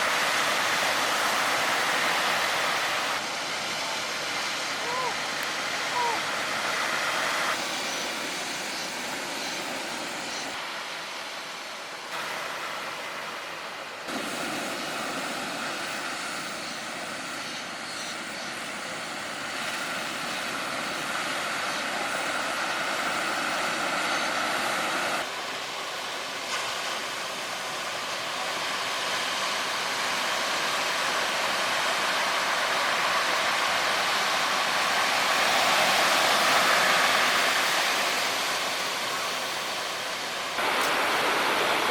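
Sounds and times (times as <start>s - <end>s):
ocean surf roaring: 0.0s - 41.9s.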